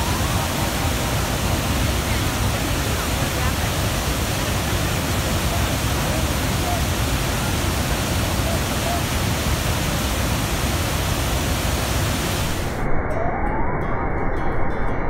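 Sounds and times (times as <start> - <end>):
waterfall torrent rushing: 0.0 - 12.8.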